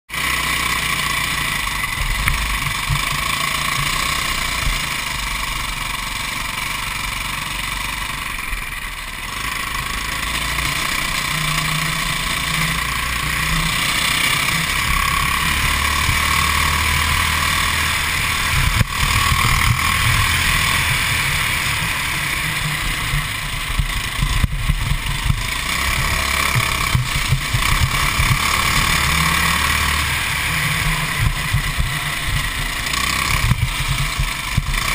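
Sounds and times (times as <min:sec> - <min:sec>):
kart engine running: 0:00.1 - 0:34.9.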